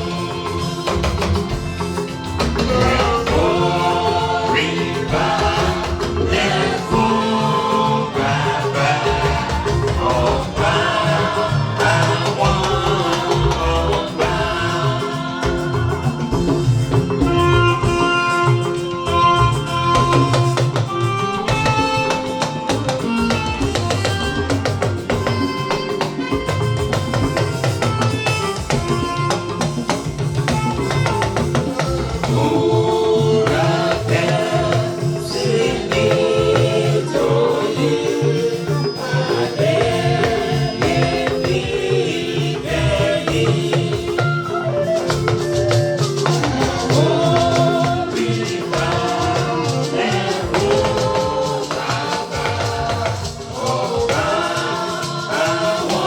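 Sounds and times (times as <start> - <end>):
congregation singing a hymn: 0.0 - 56.0
drums and tambourine beat: 0.0 - 56.0.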